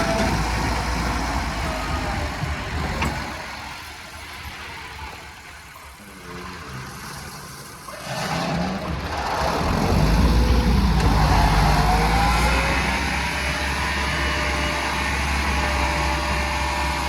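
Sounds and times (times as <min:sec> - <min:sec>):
rock crusher rumbling: 0:00.0 - 0:17.0.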